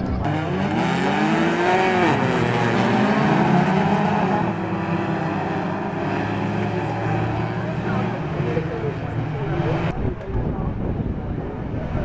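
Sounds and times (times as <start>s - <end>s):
stock car engines revving: 0.0s - 10.3s.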